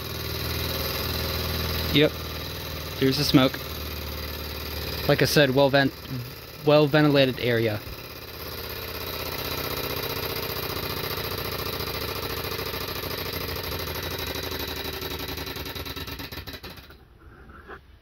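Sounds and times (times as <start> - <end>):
small engine mechanical clatter: 0.0 - 17.1.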